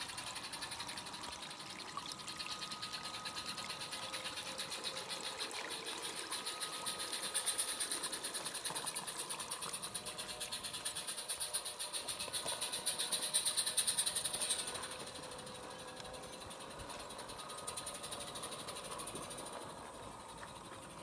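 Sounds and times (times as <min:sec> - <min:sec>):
model train rhythmic clatter: 0:00.0 - 0:21.0.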